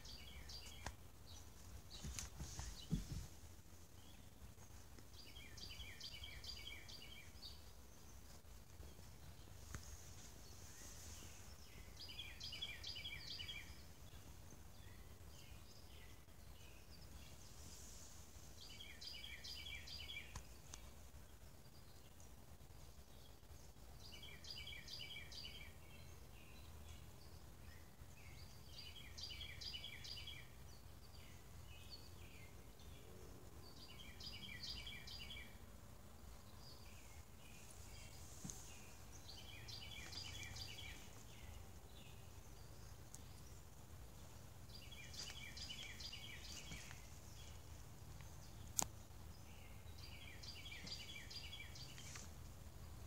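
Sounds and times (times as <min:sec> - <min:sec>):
songbird chirping phrase: 0:00.0 - 0:53.0.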